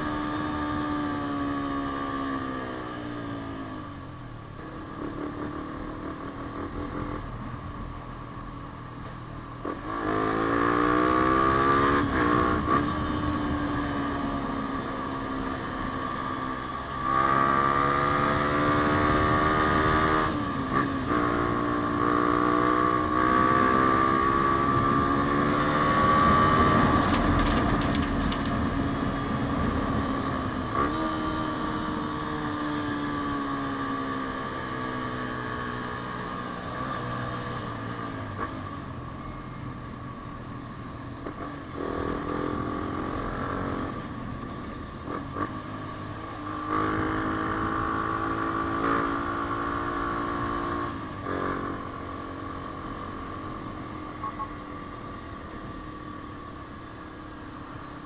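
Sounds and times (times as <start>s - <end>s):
motorcycle engine revving: 4.6s - 7.9s, 9.5s - 39.6s, 41.2s - 58.0s.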